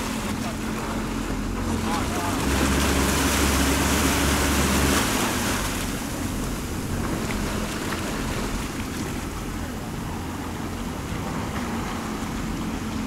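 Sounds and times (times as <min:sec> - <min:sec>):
water sloshing: 0:00.0 - 0:13.0.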